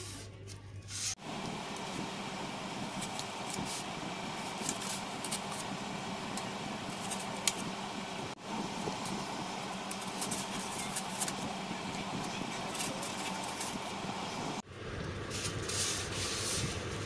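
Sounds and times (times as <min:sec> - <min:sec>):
scratching of foam: 0:00.0 - 0:14.6, 0:15.3 - 0:17.0
mechanical hum: 0:00.0 - 0:17.0.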